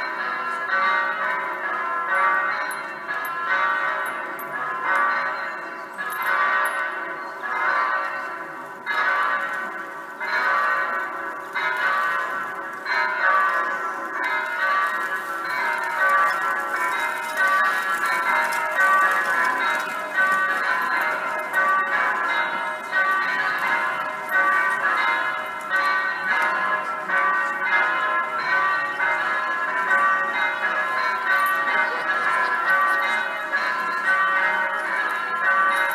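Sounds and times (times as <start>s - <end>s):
electronic church bells pealing: 0.0s - 35.9s.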